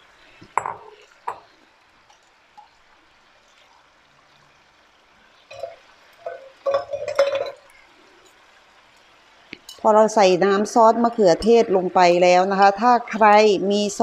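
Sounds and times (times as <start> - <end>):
sauce bubbling in a pan: 0.0 - 14.0.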